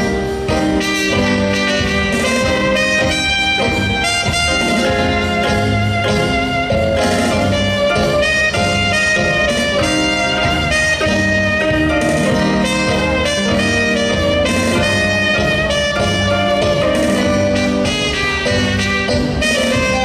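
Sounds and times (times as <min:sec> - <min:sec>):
instrumental band with horn melody: 0:00.0 - 0:20.0.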